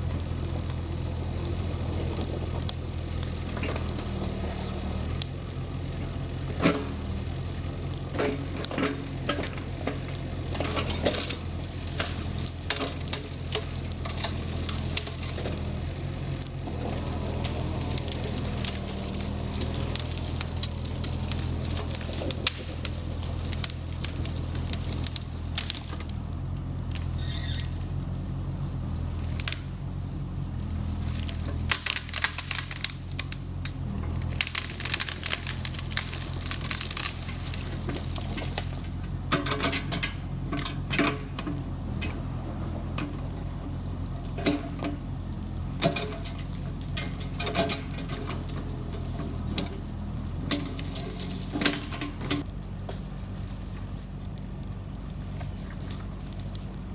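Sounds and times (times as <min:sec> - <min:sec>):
excavator diesel engine running: 0:00.0 - 0:56.9
cracks and snaps: 0:06.4 - 0:27.9, 0:28.8 - 0:29.7, 0:30.7 - 0:56.9.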